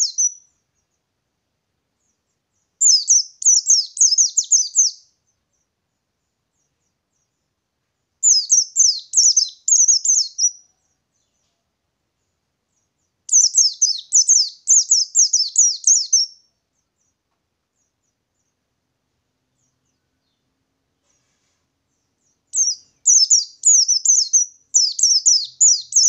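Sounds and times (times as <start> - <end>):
small bird singing: 0.0 - 26.0.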